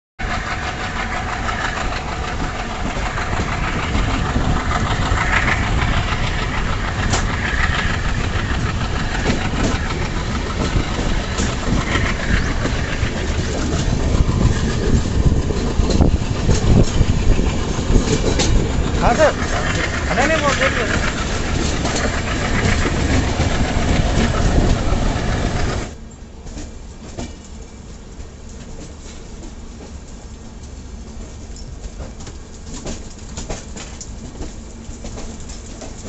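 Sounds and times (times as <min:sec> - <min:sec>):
train rumbling on rails: 0:00.2 - 0:36.0.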